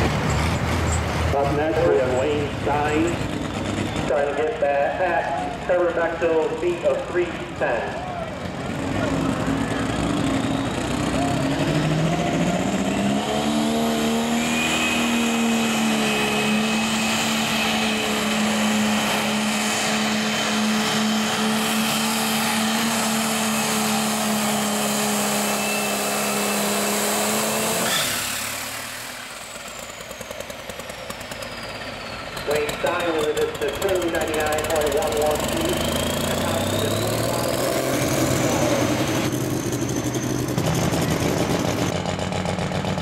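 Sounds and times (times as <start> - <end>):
tractor engine revving: 0.0 - 43.0.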